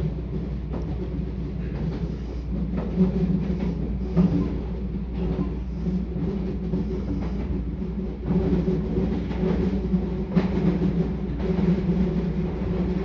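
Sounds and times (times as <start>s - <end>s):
electric train rumbling on track: 0.0s - 13.0s.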